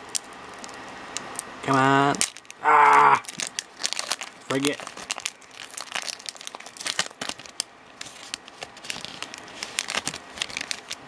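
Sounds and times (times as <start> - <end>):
foil wrapper crinkling and tearing: 2.1 - 11.0.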